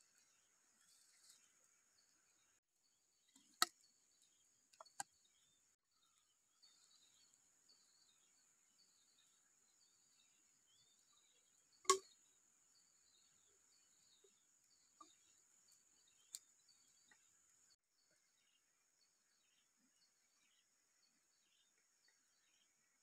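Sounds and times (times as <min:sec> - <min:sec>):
bird chirps: 0:03.2 - 0:23.0.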